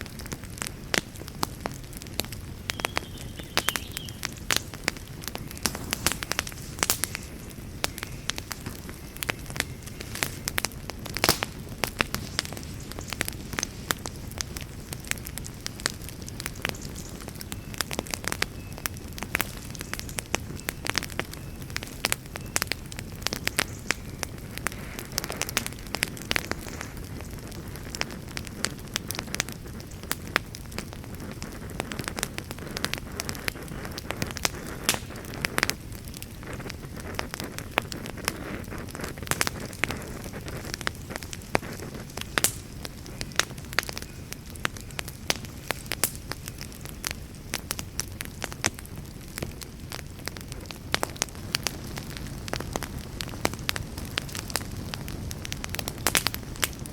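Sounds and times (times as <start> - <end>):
fire crackling with pops: 0.0 - 56.9
low rumble of flames: 0.0 - 56.9.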